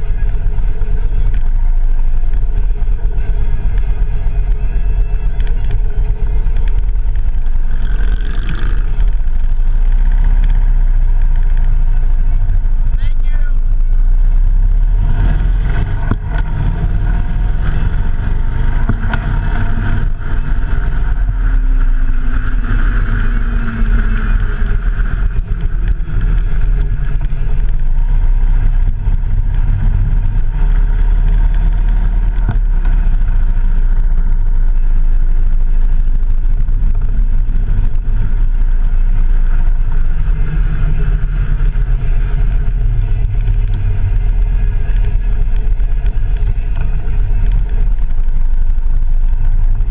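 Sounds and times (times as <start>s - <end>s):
engine running: 0.0s - 49.9s
road noise: 0.0s - 49.9s
wind rumble on microphone: 0.0s - 49.9s.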